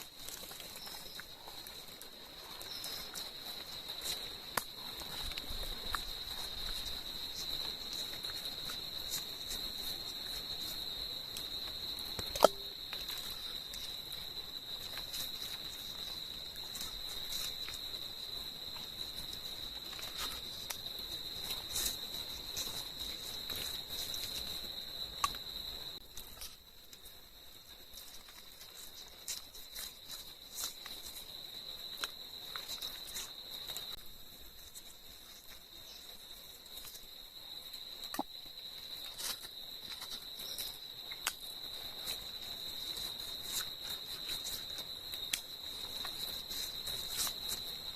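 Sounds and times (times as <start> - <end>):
insects chirping chorus: 0.0 - 47.9.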